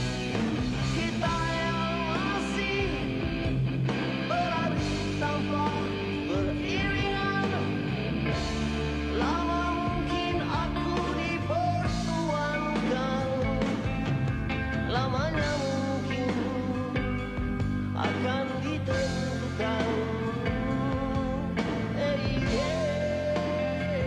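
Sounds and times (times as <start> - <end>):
bass guitar: 0.0 - 24.0
distorted electric guitars: 0.0 - 24.0
drums: 0.0 - 24.0
man singing: 0.8 - 3.3, 4.3 - 8.0, 9.1 - 14.1, 14.8 - 24.0.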